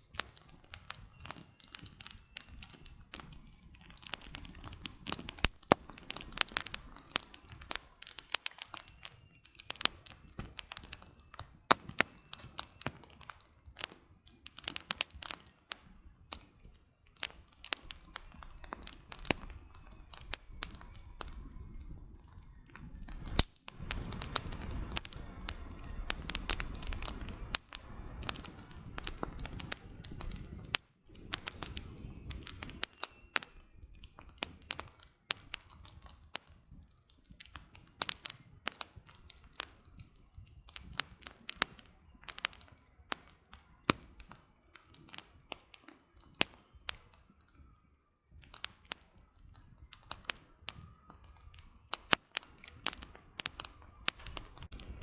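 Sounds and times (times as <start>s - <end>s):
flames rumbling: 0.0s - 47.7s, 48.3s - 55.0s
campfire crackling: 0.0s - 55.0s.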